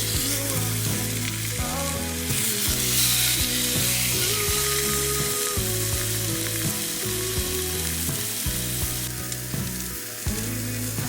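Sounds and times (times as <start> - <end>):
background pop music: 0.0 - 11.0
food sizzling in a pan: 0.0 - 11.0.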